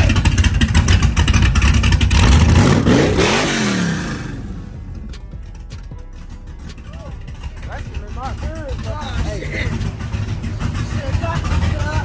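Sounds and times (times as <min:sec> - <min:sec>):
car engine with choppy exhaust: 0:00.0 - 0:12.0.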